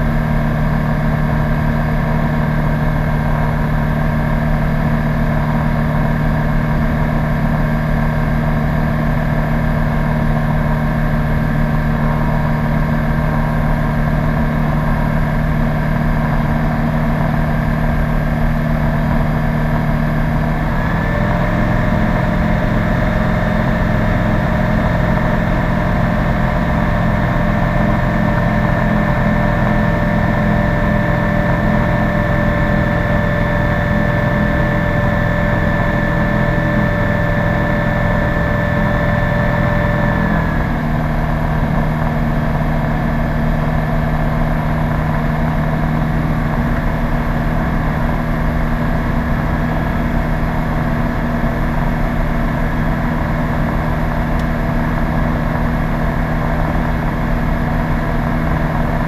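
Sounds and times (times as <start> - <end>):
light aircraft engine running: 0.0 - 59.0.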